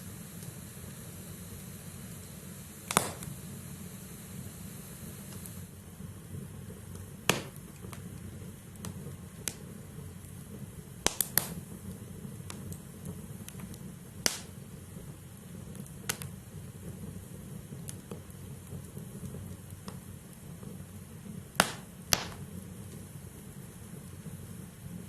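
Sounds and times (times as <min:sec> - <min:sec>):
fire crackles and pops: 0:00.0 - 0:25.0
fire flame rumble: 0:00.0 - 0:25.0.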